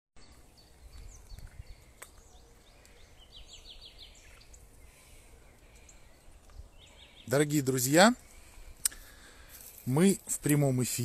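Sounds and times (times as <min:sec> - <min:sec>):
songbirds chirping: 0:00.2 - 0:11.0.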